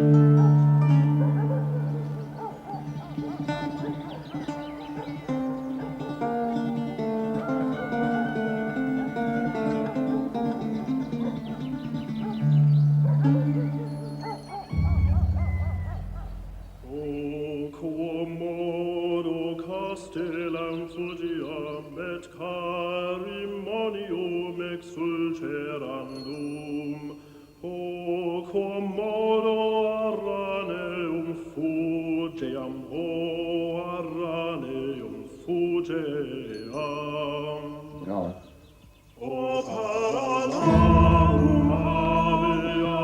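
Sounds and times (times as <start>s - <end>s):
chanted singing with sliding notes: 0.0s - 38.2s, 39.0s - 43.0s.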